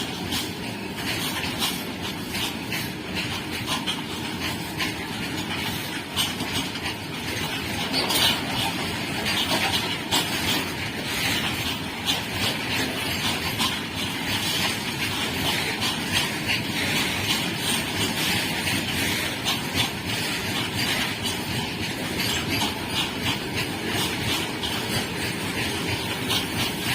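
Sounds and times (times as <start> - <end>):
rail clicks and clatter: 0.0 - 26.9
train wheels on track: 0.0 - 26.9.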